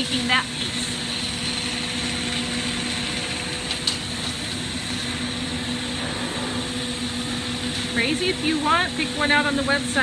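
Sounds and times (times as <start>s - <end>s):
low mechanical hum: 0.0s - 10.0s
torch flame hissing: 0.0s - 10.0s.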